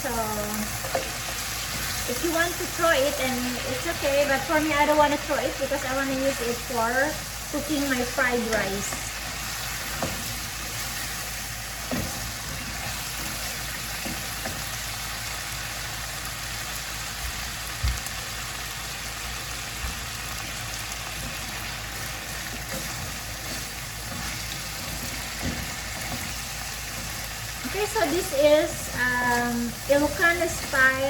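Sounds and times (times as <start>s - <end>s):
chicken sizzling in a pan: 0.0s - 31.0s.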